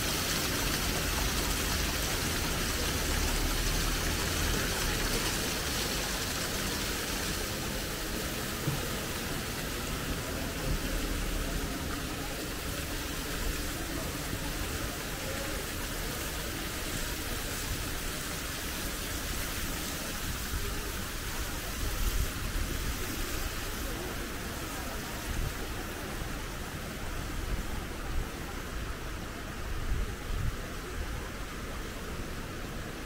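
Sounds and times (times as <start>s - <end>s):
water rushing through wooden troughs: 0.0s - 33.0s.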